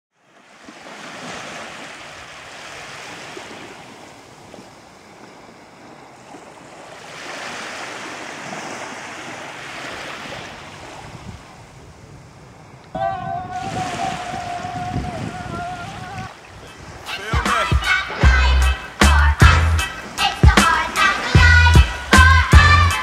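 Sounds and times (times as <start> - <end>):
sea surf washing onto beach: 0.4 - 19.0, 19.9 - 22.2.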